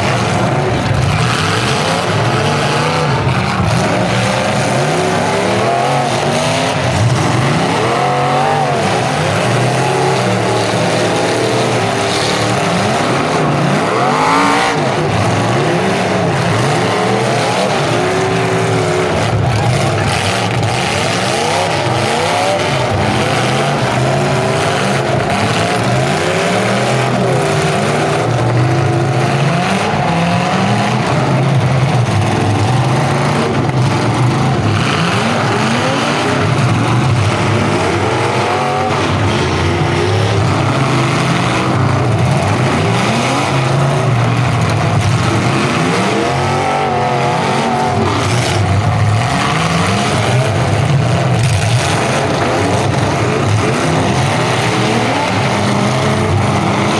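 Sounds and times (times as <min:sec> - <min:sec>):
car engines revving: 0:00.0 - 0:56.9.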